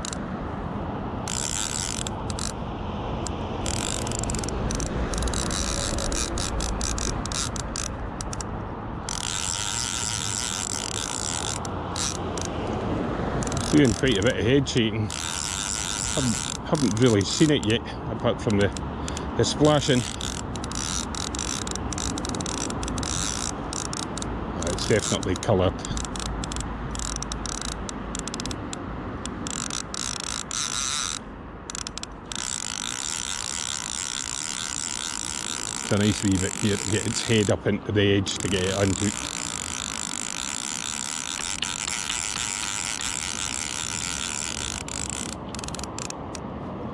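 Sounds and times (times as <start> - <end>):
fishing reel ratchet clicking: 0.0 - 0.2, 1.2 - 46.4.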